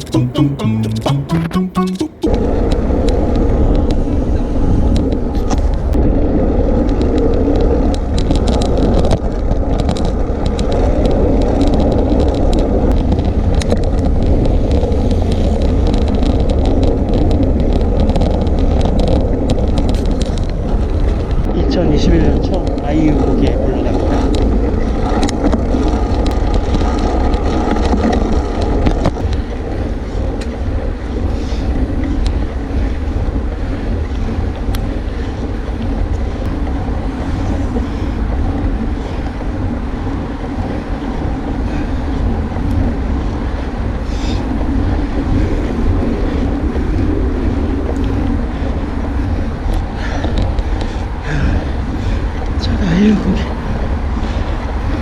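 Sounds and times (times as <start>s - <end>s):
wind rushing over microphone: 2.3s - 55.0s.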